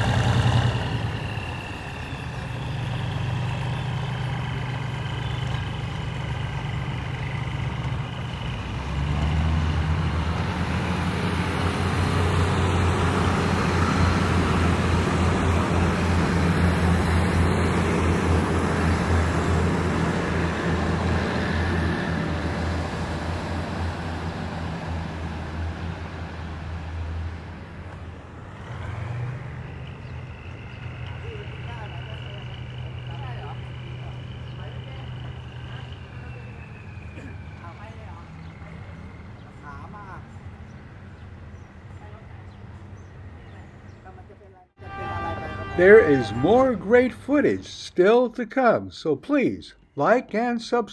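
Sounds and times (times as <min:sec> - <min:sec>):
diesel locomotive engine drone: 0:00.0 - 0:50.9.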